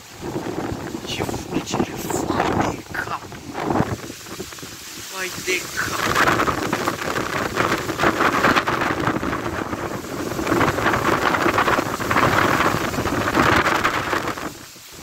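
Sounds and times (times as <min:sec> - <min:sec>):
gusting wind buffeting microphone: 0:00.0 - 0:15.0
heavy rain: 0:00.0 - 0:15.0.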